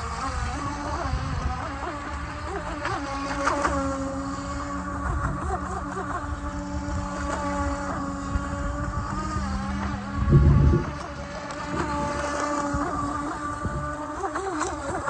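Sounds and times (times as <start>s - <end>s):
toy truck motor whine: 0.0s - 15.0s.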